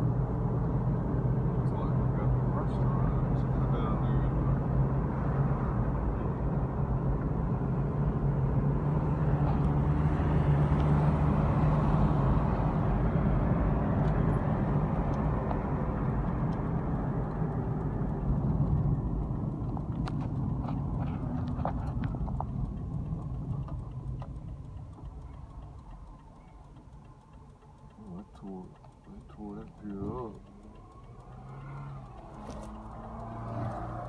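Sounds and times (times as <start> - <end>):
car engine hum: 0.0 - 34.0
tyres rushing on road: 0.0 - 34.0.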